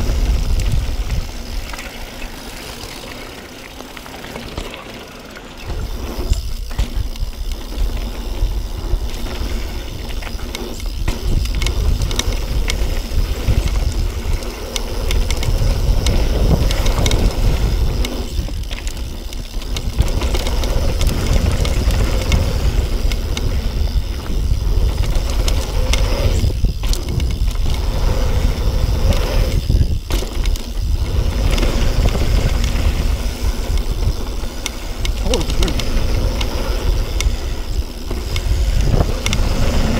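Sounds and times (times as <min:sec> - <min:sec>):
wind rumble on microphone: 0:00.0 - 0:01.9, 0:05.7 - 0:39.9
tyres on hardpacked dirt: 0:00.0 - 0:39.9.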